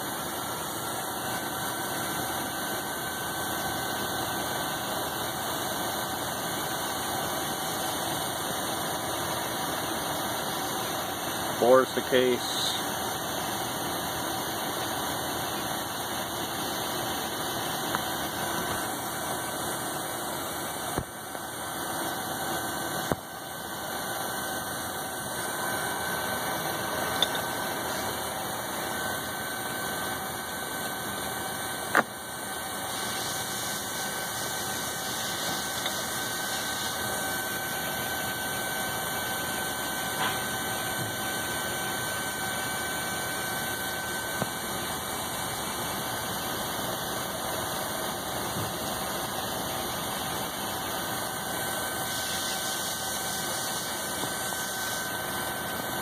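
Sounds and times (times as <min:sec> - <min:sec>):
metal lathe running: 0:00.0 - 0:56.0.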